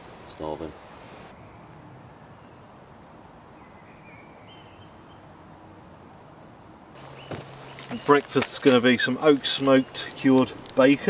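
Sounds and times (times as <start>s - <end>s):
distant bird calls: 0.0s - 11.0s.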